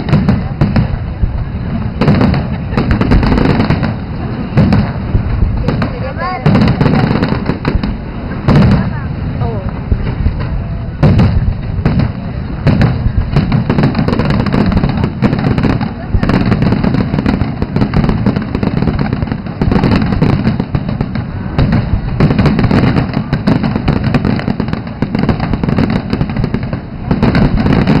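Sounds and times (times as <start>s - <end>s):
low rumble: 0.0s - 23.3s
fireworks bursting: 0.0s - 28.0s.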